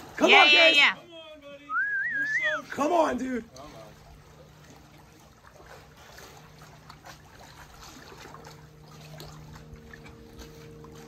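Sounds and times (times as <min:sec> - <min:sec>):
distant motor hum: 0:00.0 - 0:11.0
small waves lapping against rock: 0:01.1 - 0:11.0.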